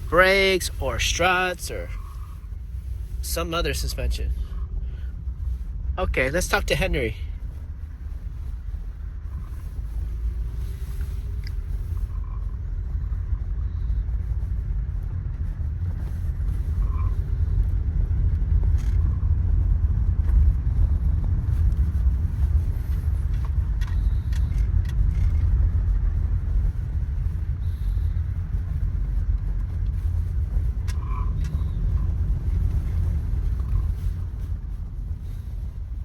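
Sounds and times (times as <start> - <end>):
road and engine rumble in car: 0.0 - 36.0.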